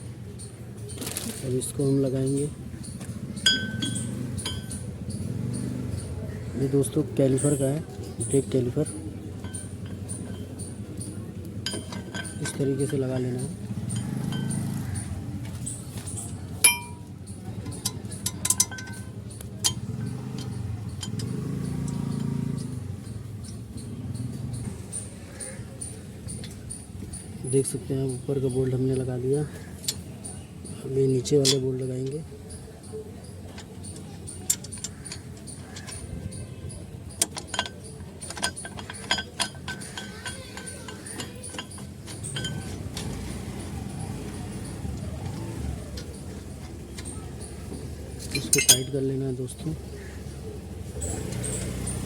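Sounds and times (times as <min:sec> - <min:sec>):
metal parts clinking: 0:00.9 - 0:25.5, 0:26.2 - 0:52.0
metallic clicks of hand tools: 0:02.2 - 0:06.1, 0:07.4 - 0:27.2, 0:31.3 - 0:50.1.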